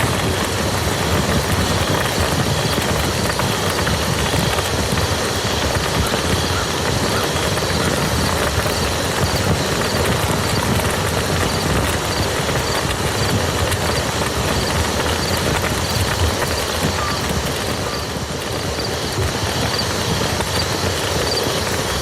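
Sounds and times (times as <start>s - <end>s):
rain falling on a field: 0.0s - 22.0s.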